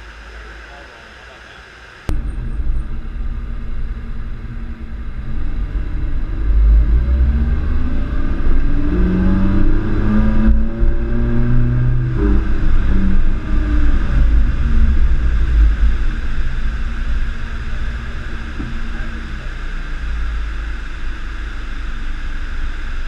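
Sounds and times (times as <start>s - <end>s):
sports car engine revving: 2.1s - 23.0s.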